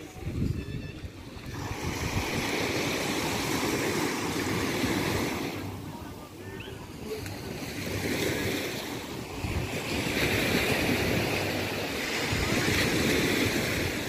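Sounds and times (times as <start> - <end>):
wind buffeting microphone: 0.0 - 5.7, 6.6 - 14.0
waves washing on sandy shore: 0.0 - 14.0.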